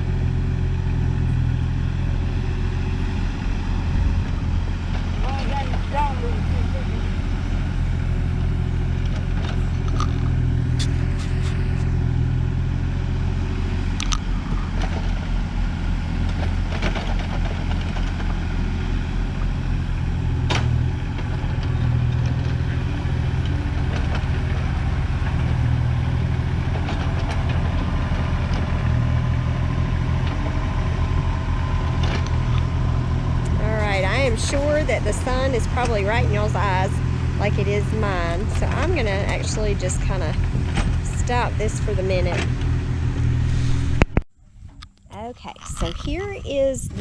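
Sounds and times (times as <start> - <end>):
excavator engine running: 0.0 - 47.0.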